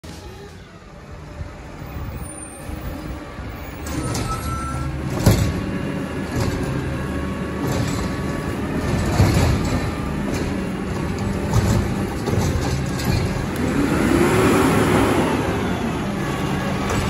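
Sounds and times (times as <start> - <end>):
garbage truck diesel engine: 0.0 - 17.0
side-loader arm lifting cart: 0.0 - 17.0.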